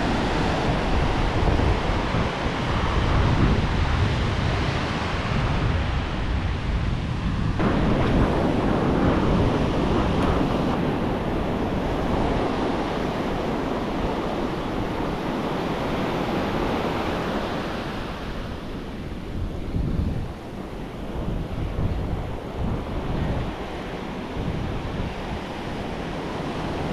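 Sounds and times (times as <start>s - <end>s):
ocean surf breaking: 0.0s - 26.9s
wind rumbling on microphone: 0.0s - 26.9s.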